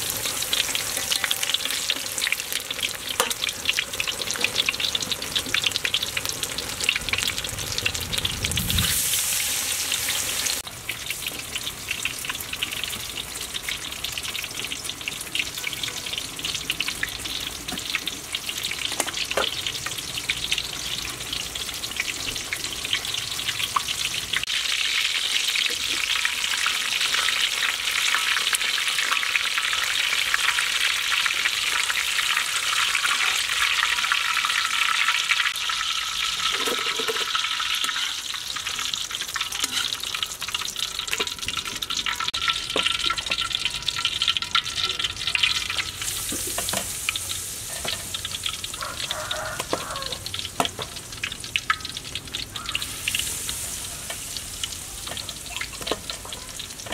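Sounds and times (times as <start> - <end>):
battered food deep-frying in oil: 0.0 - 56.9.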